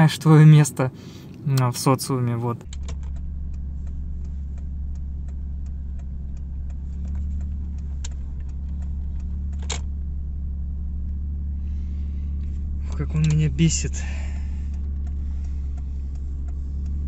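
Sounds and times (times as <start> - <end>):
turn signal ticking: 1.2 - 17.0
car engine idling: 2.0 - 17.0.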